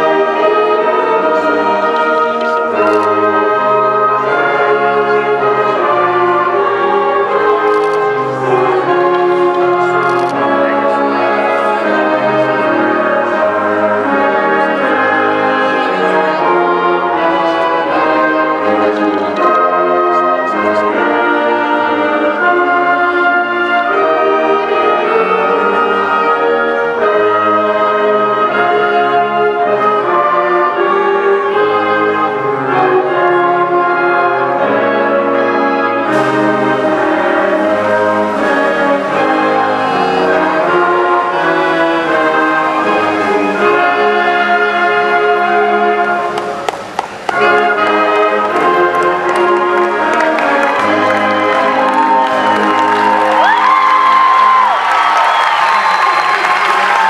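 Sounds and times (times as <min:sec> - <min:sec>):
concert band playing slow tune: 0:00.0 - 0:57.0.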